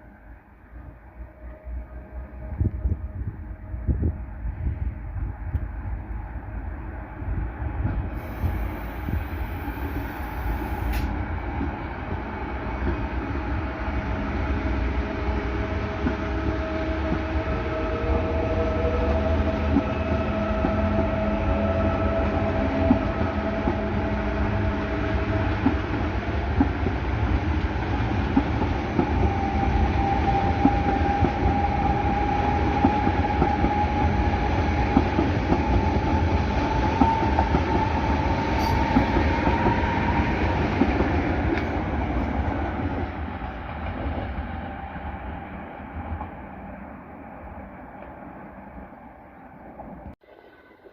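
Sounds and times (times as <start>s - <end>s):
train rumble and wheel clatter: 0.0s - 50.2s.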